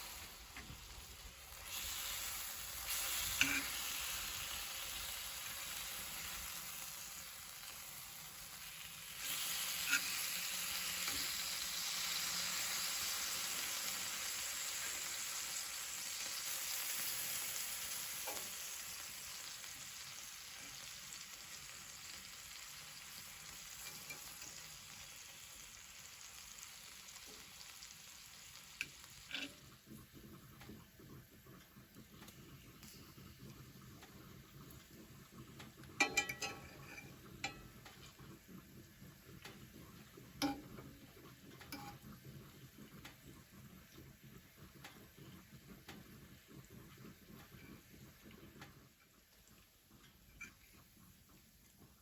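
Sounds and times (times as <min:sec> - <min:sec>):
food sizzling in a frying pan: 0:00.0 - 0:52.0.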